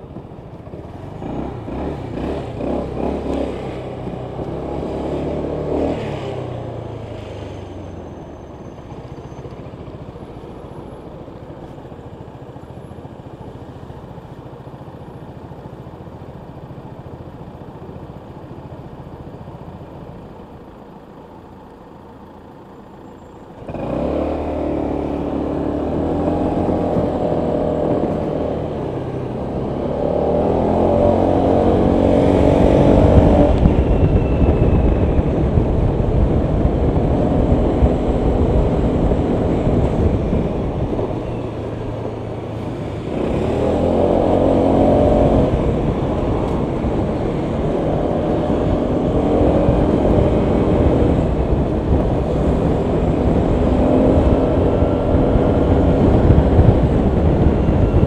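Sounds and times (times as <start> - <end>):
scooter engine surging: 0.0 - 17.2, 23.6 - 58.0
wind and road noise: 0.0 - 58.0.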